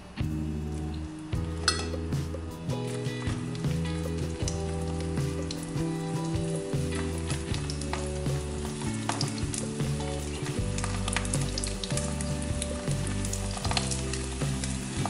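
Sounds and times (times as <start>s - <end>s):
fish sizzling in hot oil: 0.5s - 15.0s.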